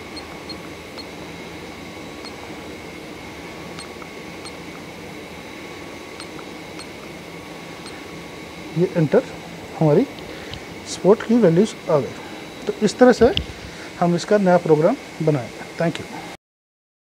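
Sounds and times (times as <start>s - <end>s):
steady background hum: 0.0s - 16.4s.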